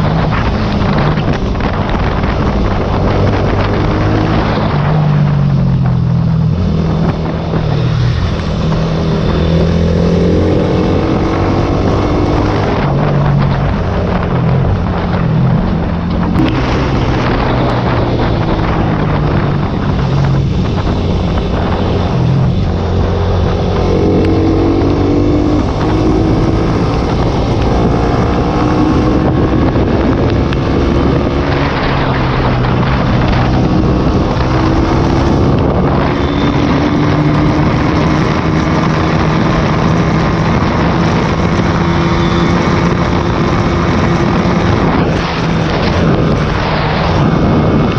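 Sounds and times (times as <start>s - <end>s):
motorcycle engine revving: 0.0s - 47.9s
wind on microphone: 0.0s - 47.9s.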